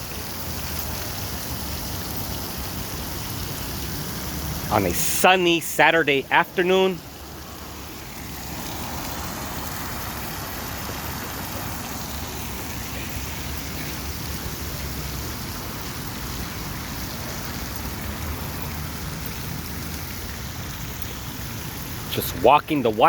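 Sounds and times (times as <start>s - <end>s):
water fountain splashing: 0.0s - 23.0s.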